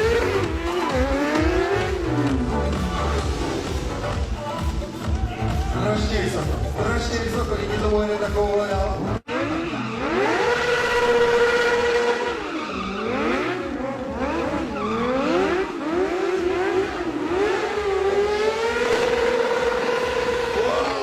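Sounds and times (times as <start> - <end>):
motorcycle engine revving: 0.0 - 5.7, 6.4 - 21.0.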